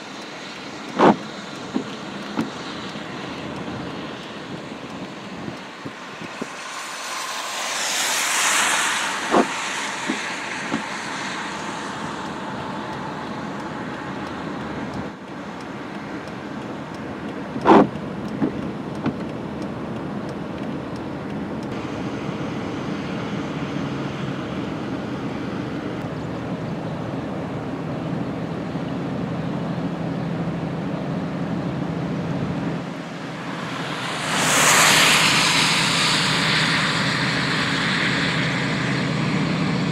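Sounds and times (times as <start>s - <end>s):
road traffic rushing: 0.0s - 39.9s.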